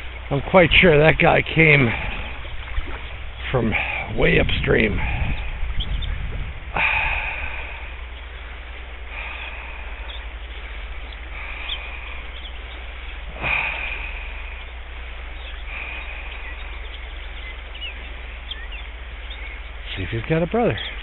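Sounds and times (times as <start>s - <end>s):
river riffle rushing: 0.0s - 21.0s
small birds chirping: 0.0s - 21.0s.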